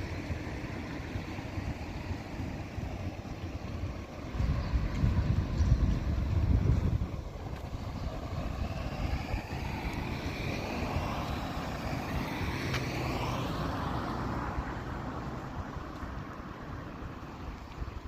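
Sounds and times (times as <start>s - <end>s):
car engine and road rumble: 0.0s - 18.0s
tyre and road hiss: 0.0s - 18.0s.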